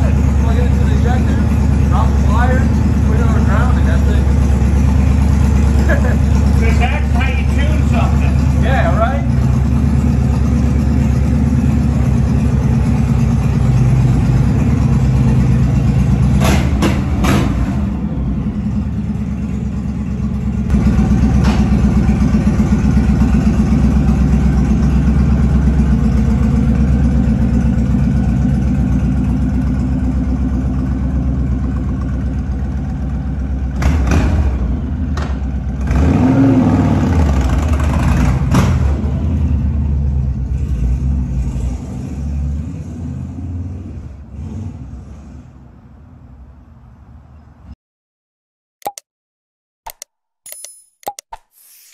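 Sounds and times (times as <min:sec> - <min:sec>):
motorcycle idling and revving: 0:00.0 - 0:46.4.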